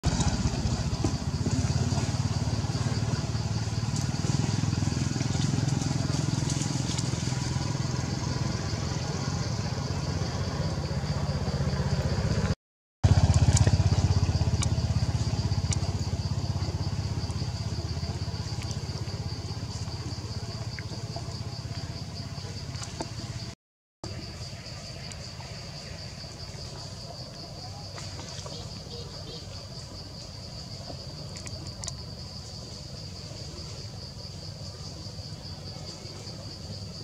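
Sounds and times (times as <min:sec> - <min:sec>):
low engine rumble: 0:00.0 - 0:37.0.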